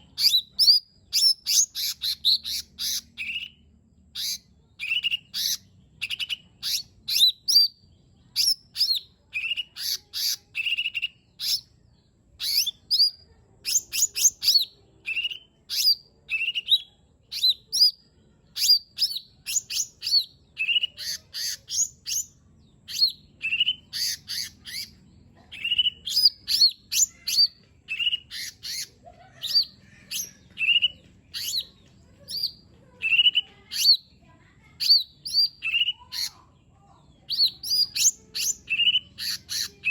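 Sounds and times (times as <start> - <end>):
bird singing sharp chirps: 0.0 - 11.8, 12.4 - 34.1, 34.8 - 36.4, 37.1 - 39.9.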